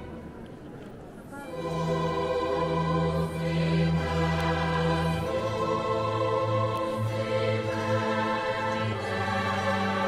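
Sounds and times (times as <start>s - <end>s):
choir singing sustained chord: 1.3s - 10.0s.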